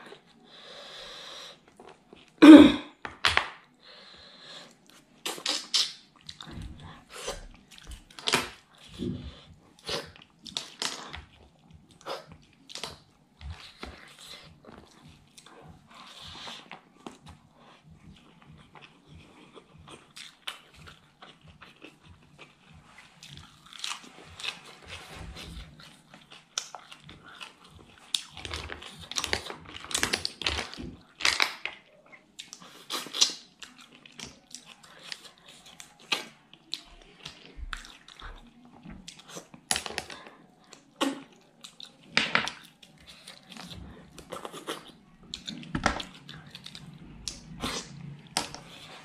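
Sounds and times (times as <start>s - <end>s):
person chewing and lip smacking: 1.6s - 2.4s, 4.6s - 49.0s.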